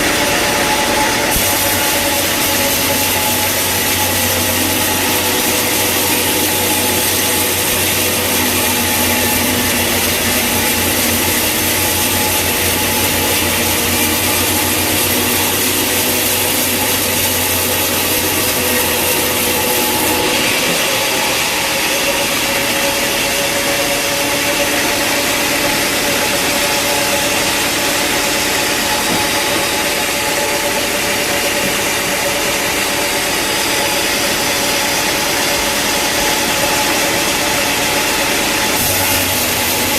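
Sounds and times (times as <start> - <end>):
saw cutting through wood: 0.0 - 39.9
sawmill engine hum: 0.0 - 39.9
steady machine hum: 0.0 - 39.9.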